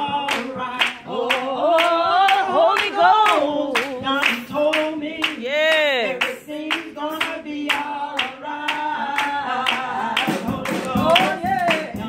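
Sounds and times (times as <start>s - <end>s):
gospel singing: 0.0s - 12.0s
hand clapping on a beat: 0.0s - 12.0s.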